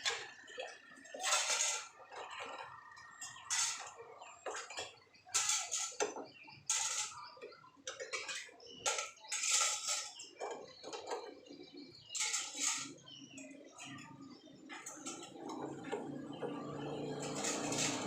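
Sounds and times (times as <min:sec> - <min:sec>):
dishes and cutlery clattering: 0:00.0 - 0:14.1, 0:14.7 - 0:18.0.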